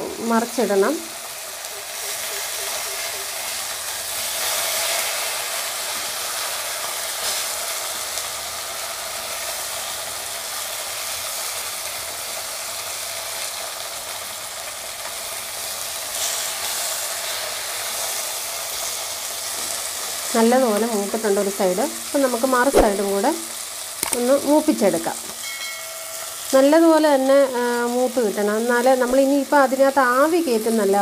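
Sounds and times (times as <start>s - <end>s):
fish sizzling in hot oil: 0.0s - 31.0s.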